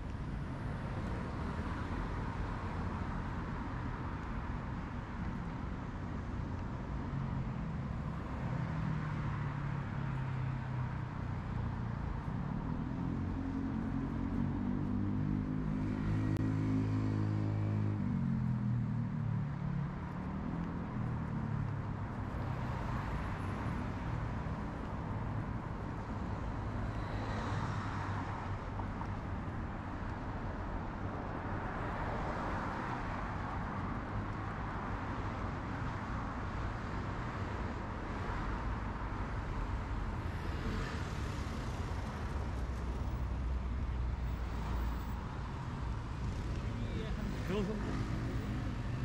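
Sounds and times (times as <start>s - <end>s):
road traffic rumble: 0.0s - 49.0s
vehicles passing: 0.0s - 49.0s.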